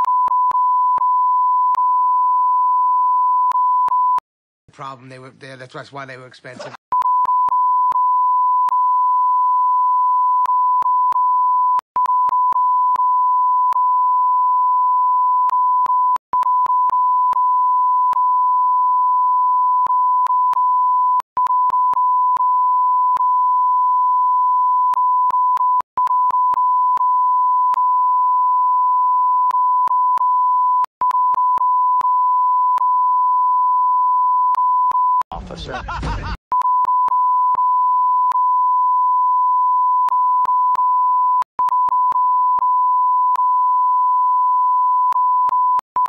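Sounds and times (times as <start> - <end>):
censor bleep tone: 0.0 - 4.2, 6.9 - 35.3, 36.5 - 46.0.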